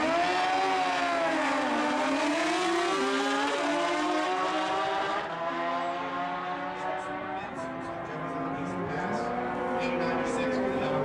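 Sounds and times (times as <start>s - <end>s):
motorcycle accelerating through gears: 0.0s - 11.0s.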